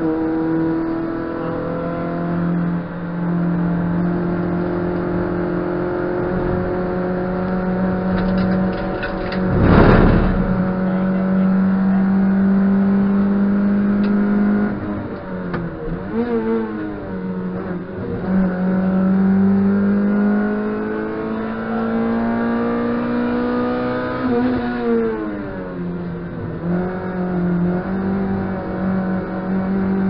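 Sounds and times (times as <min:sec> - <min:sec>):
rally car engine under load: 0:00.0 - 0:30.0.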